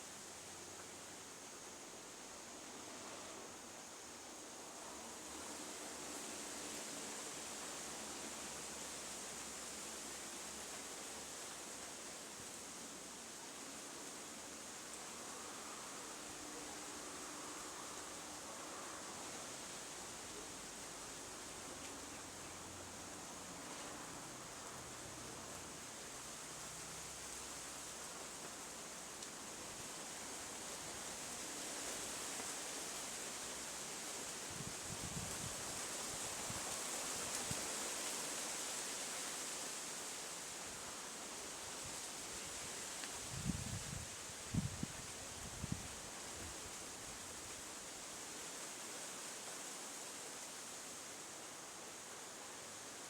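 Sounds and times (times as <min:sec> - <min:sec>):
rushing outdoor ambient noise: 0:00.0 - 0:53.0.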